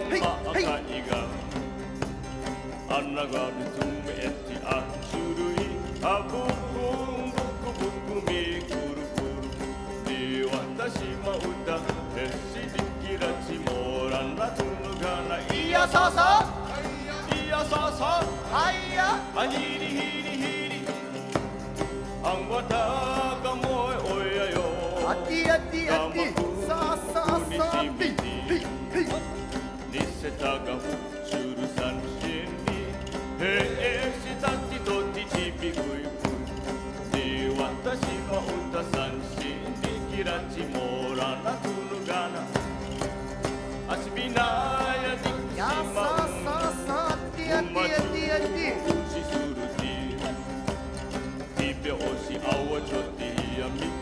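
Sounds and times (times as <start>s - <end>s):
plucked lutes in ensemble: 0.0s - 54.0s
voices singing: 0.0s - 54.0s.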